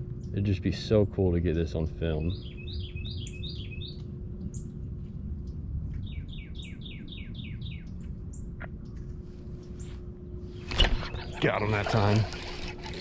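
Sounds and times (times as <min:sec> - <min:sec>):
songbird singing: 0:00.0 - 0:04.8, 0:05.4 - 0:12.8
steady low rumble: 0:00.0 - 0:13.0.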